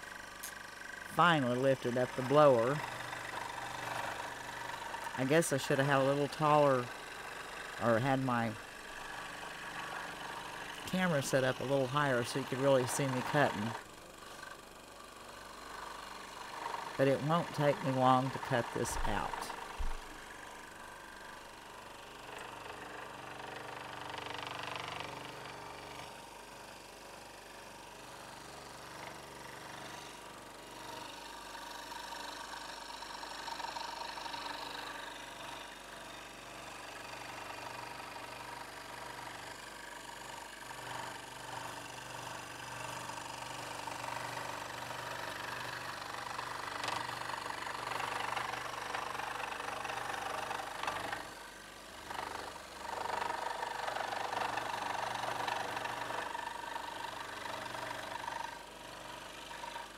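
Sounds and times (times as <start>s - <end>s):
scroll saw cutting wood: 0.0s - 59.9s.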